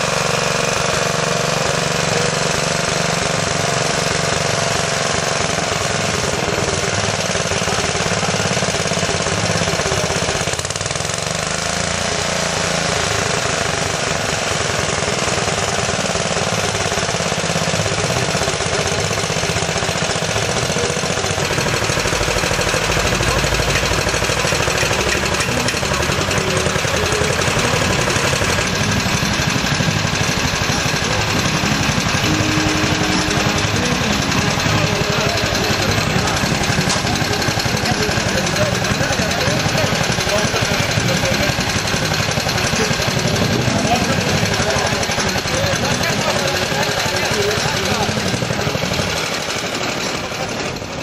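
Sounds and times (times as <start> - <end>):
tractor engine chugging: 0.0 - 51.0.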